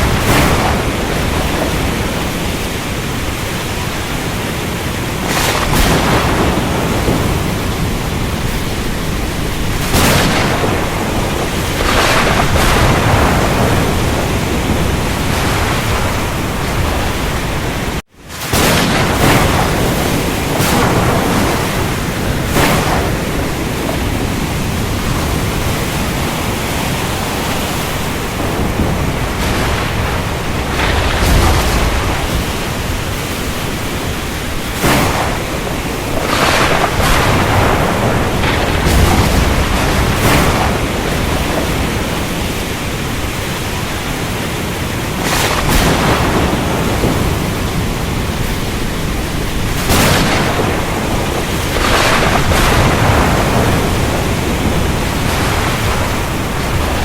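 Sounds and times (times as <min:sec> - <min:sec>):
rain: 0:00.0 - 0:57.0
surf waves surging: 0:00.0 - 0:57.0.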